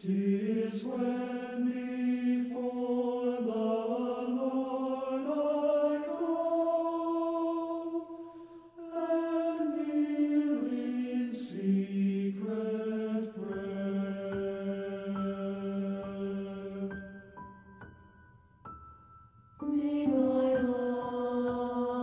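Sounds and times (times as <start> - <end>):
choir singing a hymn: 0.0 - 17.3, 19.6 - 22.0.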